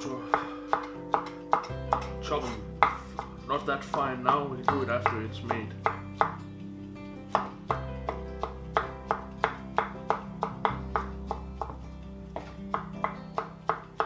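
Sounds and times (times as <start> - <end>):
background music: 0.0 - 14.0
knife chopping on cutting board: 0.3 - 6.4, 7.3 - 11.8, 12.4 - 14.0.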